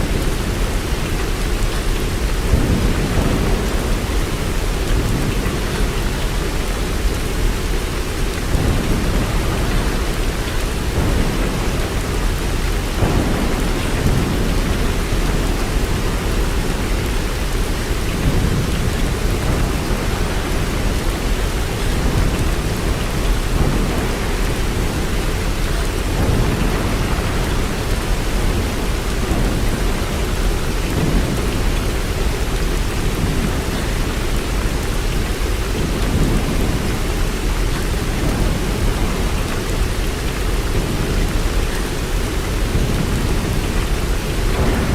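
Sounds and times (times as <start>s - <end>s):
heavy rain hissing: 0.0s - 44.9s.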